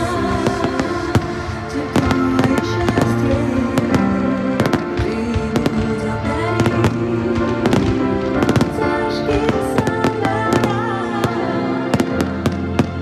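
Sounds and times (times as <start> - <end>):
fireworks bangs: 0.0 - 13.0
loud music with held notes: 0.0 - 13.0.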